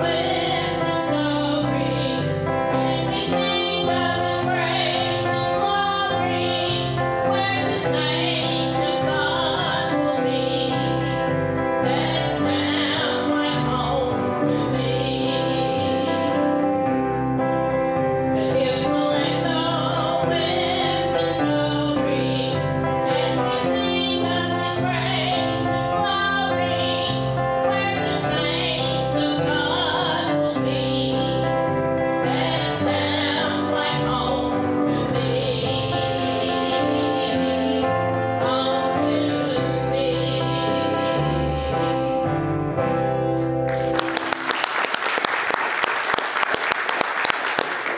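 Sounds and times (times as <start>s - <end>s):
male and female voices singing: 0.0s - 17.0s, 18.2s - 42.3s.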